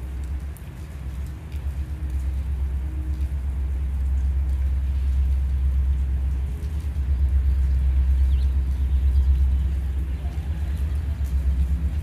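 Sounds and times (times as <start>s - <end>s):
low rumble: 0.0s - 12.0s
rain falling: 0.0s - 12.0s.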